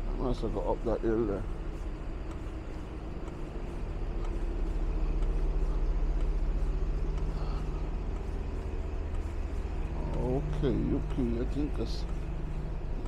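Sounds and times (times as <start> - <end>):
bus engine running: 0.0 - 13.0
street traffic: 0.0 - 13.0.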